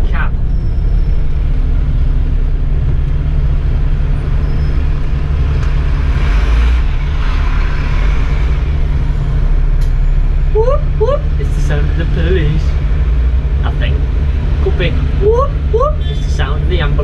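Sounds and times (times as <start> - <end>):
passing bus rushing noise: 0.0 - 15.8
bus engine droning: 0.0 - 17.0.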